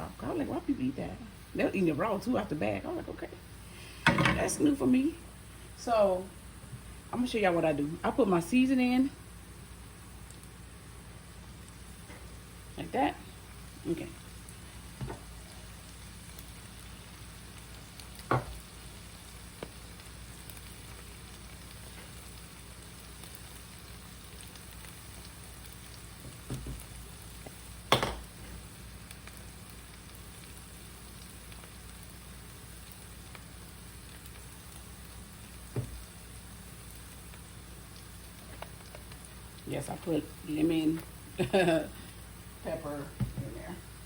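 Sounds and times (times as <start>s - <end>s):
garlic sizzling in a frying pan: 0.0s - 44.0s.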